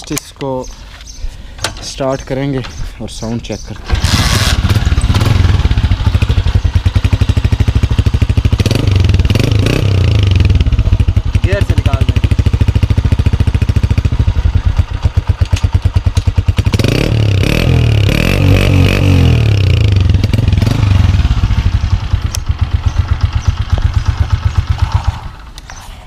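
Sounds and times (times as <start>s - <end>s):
motorcycle engine idling and revving: 3.1s - 25.8s.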